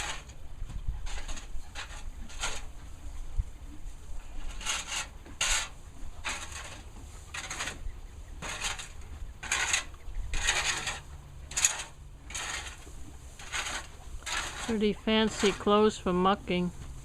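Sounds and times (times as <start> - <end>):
tool scraping bedding: 0.0 - 0.4, 1.0 - 2.7, 4.3 - 16.1.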